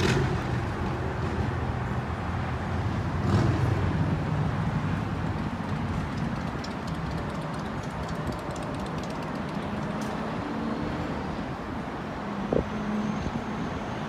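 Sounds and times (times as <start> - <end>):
low engine hum: 0.0 - 12.7
distant road traffic: 0.0 - 14.0.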